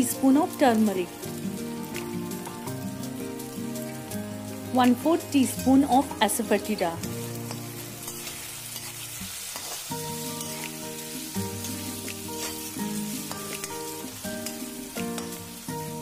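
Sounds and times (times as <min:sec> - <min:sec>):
food sizzling in oil: 0:00.0 - 0:16.0
instrumental background music: 0:00.0 - 0:16.0.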